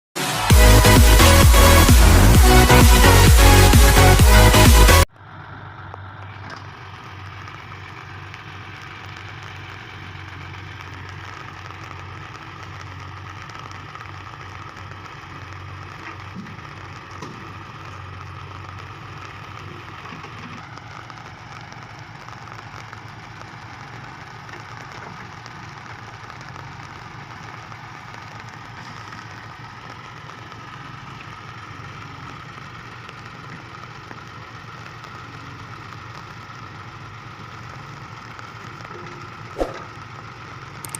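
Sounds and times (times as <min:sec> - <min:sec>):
diesel engine running: 0:00.2 - 0:40.9.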